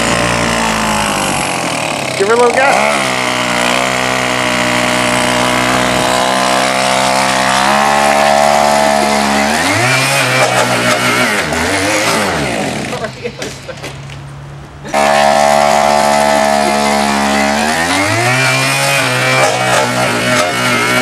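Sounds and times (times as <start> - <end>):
small engine revving: 0.0 - 13.1, 14.8 - 21.0.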